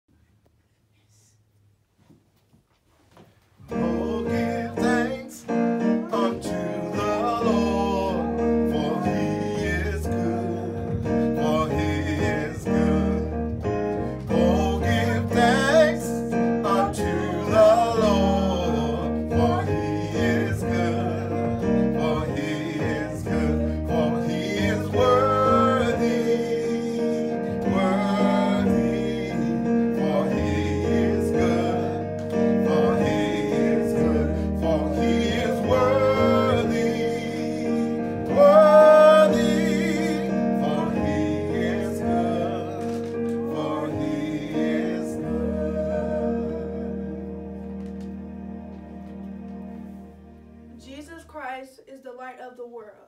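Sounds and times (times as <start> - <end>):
piano playing sustained chords: 3.7 - 51.0.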